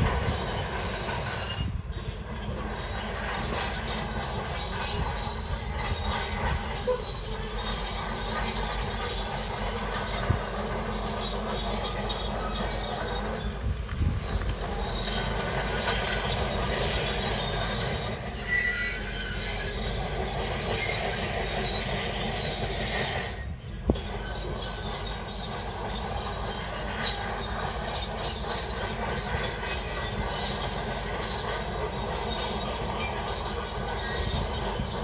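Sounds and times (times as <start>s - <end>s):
bulldozer engine and tracks running: 0.0s - 35.0s.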